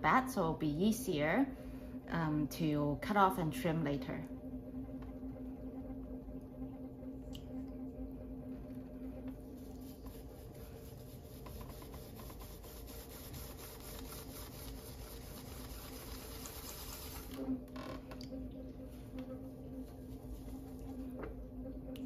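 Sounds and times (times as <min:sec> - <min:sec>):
pottery wheel motor humming: 0:00.0 - 0:22.0.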